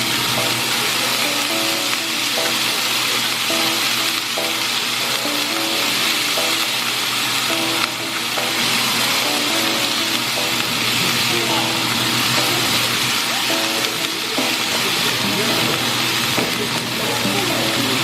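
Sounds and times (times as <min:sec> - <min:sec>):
food sizzling in a pot: 0:00.0 - 0:18.0
simple background music: 0:00.0 - 0:18.0.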